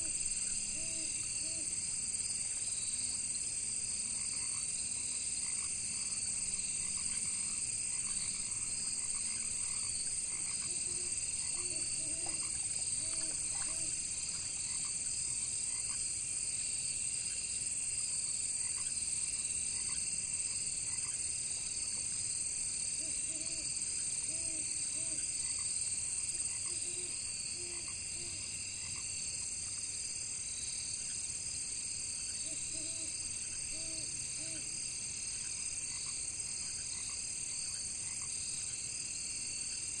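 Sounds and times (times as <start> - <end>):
frogs croaking: 0.0 - 3.2, 3.8 - 16.3, 18.4 - 29.9, 32.1 - 39.0
crickets chirping: 0.0 - 40.0.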